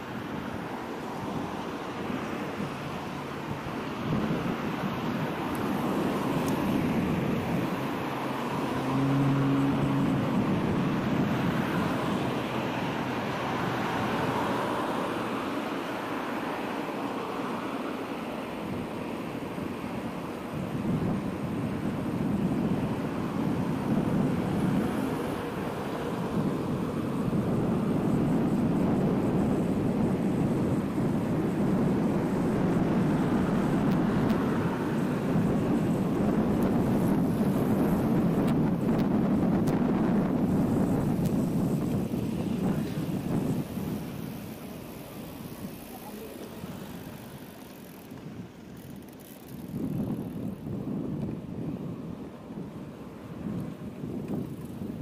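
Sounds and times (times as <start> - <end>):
wind on microphone: 0.0 - 17.2, 18.4 - 55.0
road traffic: 0.0 - 55.0.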